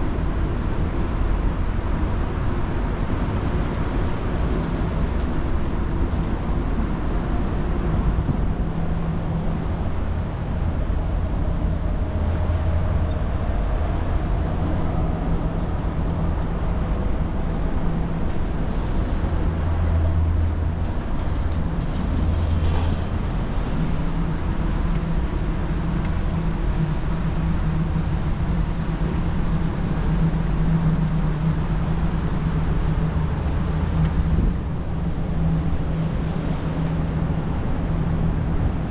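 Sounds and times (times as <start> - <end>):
city street traffic rumble: 0.0 - 38.9.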